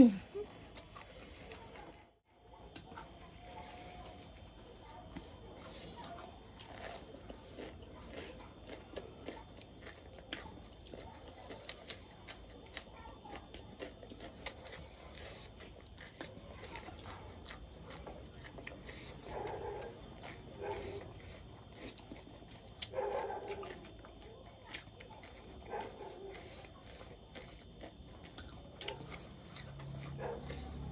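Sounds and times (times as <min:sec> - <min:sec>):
person chewing crunchy food: 0:00.2 - 0:30.9.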